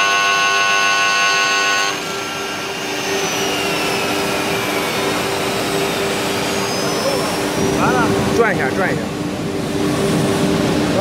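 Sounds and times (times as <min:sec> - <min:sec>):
dust collection fan humming: 0:00.0 - 0:11.0
lathe spindle whining: 0:00.0 - 0:11.0.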